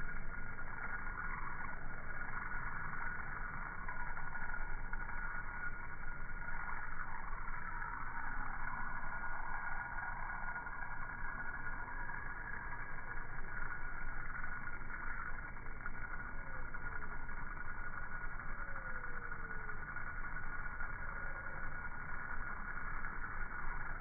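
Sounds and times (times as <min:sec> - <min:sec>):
faint falling tone: 0:00.0 - 0:24.0
low rumbling drone: 0:00.0 - 0:24.0.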